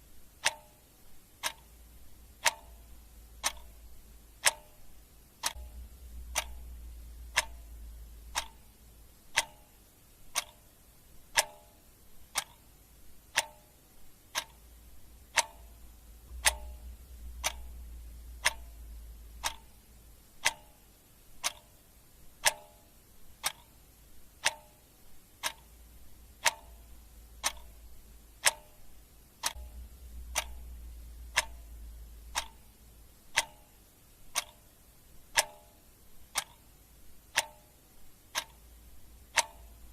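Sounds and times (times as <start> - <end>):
clock ticking: 0.0 - 39.9
faint low rumble: 0.0 - 39.9.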